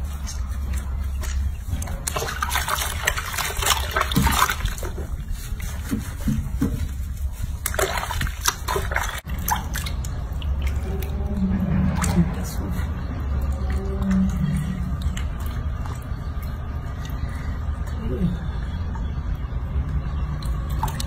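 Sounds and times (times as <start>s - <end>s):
soapy water sloshing in sink: 0.0s - 19.5s.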